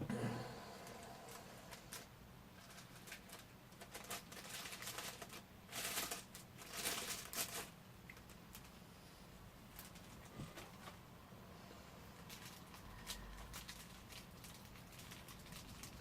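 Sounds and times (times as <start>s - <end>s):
plastic wrapping crinkling: 0.8s - 8.8s, 9.7s - 11.0s, 12.2s - 16.0s.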